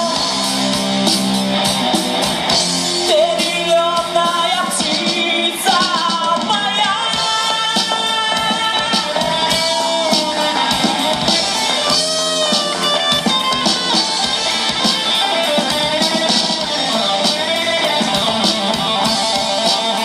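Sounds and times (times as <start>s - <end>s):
guitar melody: 0.0s - 5.5s, 7.7s - 20.0s
drum kit beat: 0.0s - 20.0s.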